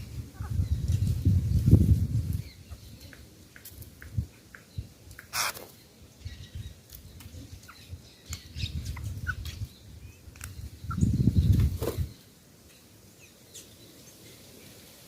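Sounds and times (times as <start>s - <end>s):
birds chirping and calling: 0.0s - 14.8s.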